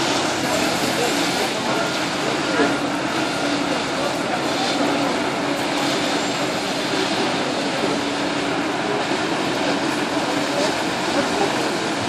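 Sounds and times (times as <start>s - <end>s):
fire engines droning: 0.0s - 12.0s.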